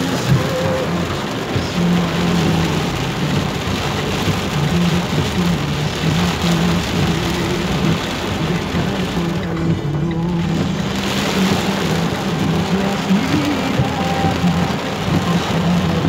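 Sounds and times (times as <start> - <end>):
heavy rain drumming on a car: 0.0 - 16.0.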